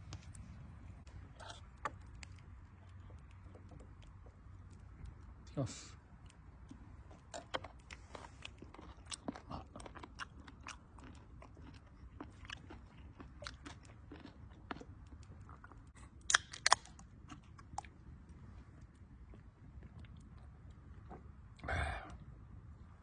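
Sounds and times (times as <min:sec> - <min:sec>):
chewing crunchy cartilage: 0:01.0 - 0:05.5, 0:06.1 - 0:22.3.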